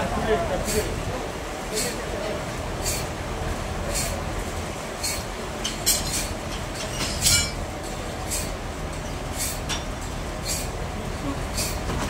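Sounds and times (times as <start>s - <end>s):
sawmill machinery humming: 0.0s - 12.0s.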